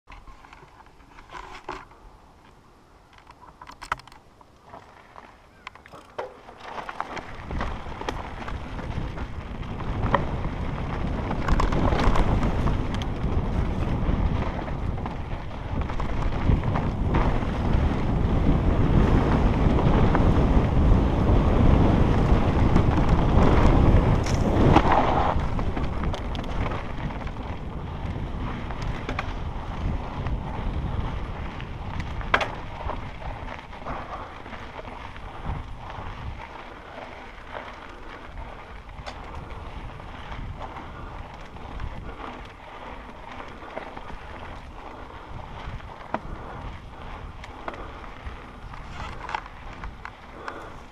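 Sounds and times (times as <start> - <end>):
tyres rolling on dirt trail: 0.0 - 50.9
bike rattling over bumps: 3.1 - 50.9
wind rushing over microphone: 7.0 - 50.9.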